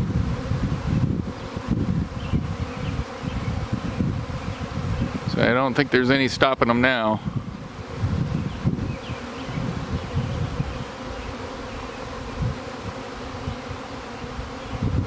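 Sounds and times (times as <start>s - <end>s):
wind rumble on microphone: 0.0s - 11.5s, 12.2s - 15.0s
bees buzzing: 0.0s - 15.0s.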